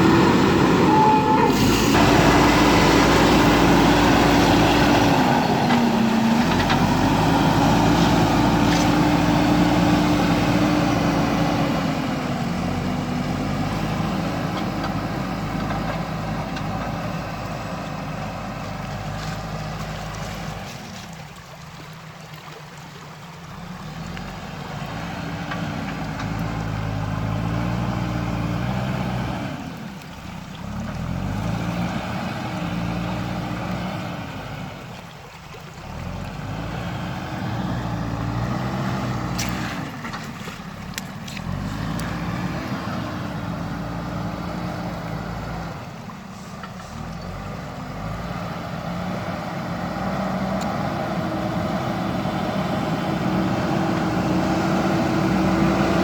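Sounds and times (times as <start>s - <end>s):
diesel engine revving under load: 0.0s - 20.9s, 23.5s - 35.1s, 35.8s - 56.0s.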